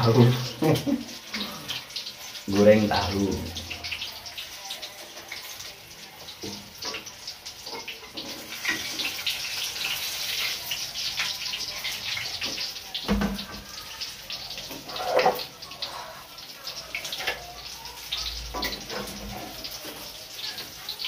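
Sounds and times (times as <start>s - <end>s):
tofu frying in hot oil: 0.0s - 21.0s.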